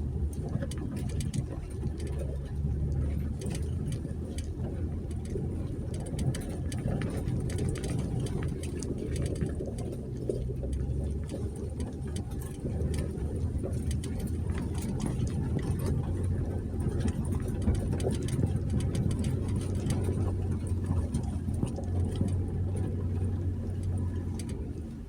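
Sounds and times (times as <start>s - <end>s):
engine humming at low speed: 0.0s - 25.0s
sharp clicks and knocks: 0.2s - 24.7s.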